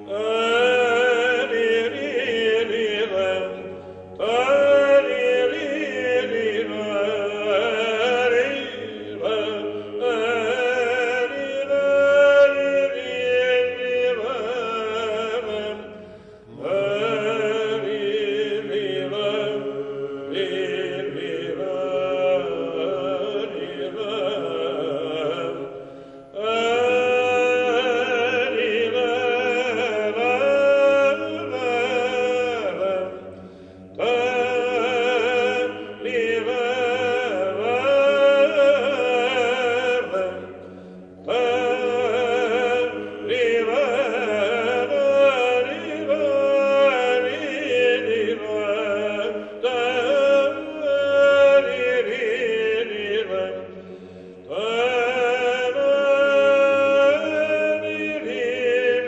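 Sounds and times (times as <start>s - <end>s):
male choir chanting: 0.0s - 15.9s, 16.5s - 25.8s, 26.4s - 33.4s, 34.0s - 40.6s, 41.3s - 53.8s, 54.5s - 59.0s.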